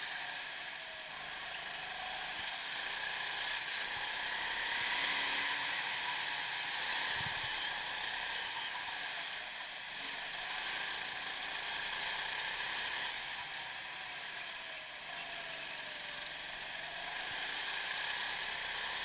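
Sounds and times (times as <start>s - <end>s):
go-kart running noise: 0.0s - 19.0s.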